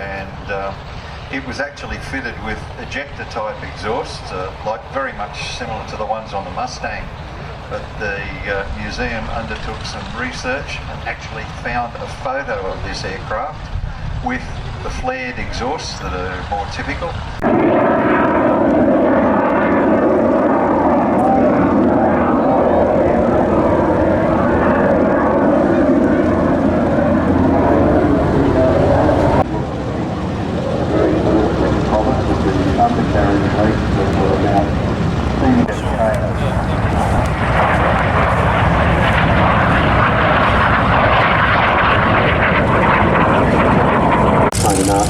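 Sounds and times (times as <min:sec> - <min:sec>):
propeller aircraft flying past: 0:00.0 - 0:45.0.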